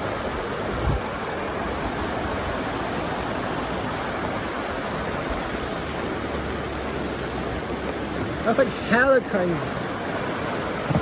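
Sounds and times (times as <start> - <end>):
fast-flowing water: 0.0 - 11.0.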